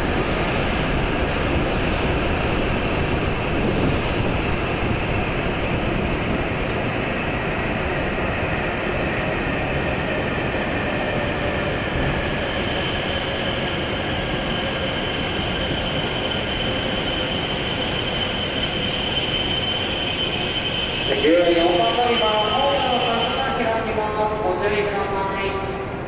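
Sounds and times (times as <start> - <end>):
train rolling rumble: 0.0 - 26.0
high-pitched train squeal: 1.6 - 24.2.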